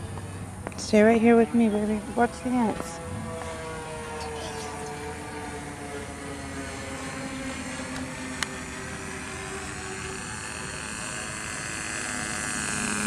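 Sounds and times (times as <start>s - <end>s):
model plane engine drone: 0.0s - 13.0s.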